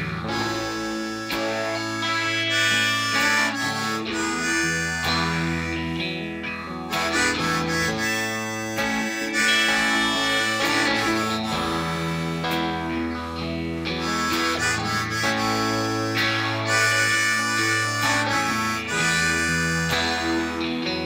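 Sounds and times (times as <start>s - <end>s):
band accompaniment: 0.0s - 21.0s
harmonica melody: 0.0s - 21.0s.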